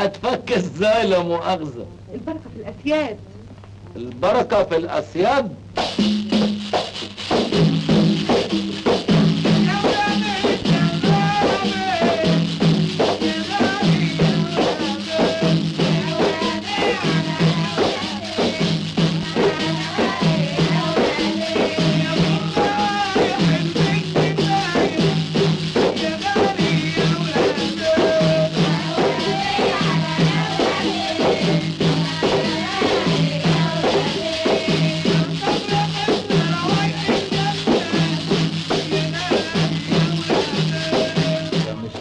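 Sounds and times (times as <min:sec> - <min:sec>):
hand drums beating: 0:05.7 - 0:42.0.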